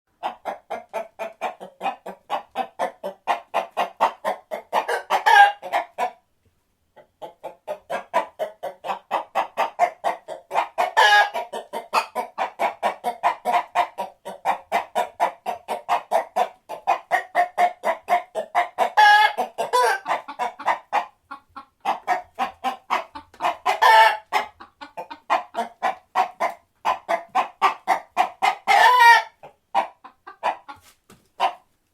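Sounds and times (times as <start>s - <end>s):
chickens clucking: 0.1s - 31.9s
chicken squawking: 0.2s - 6.2s, 7.2s - 31.7s.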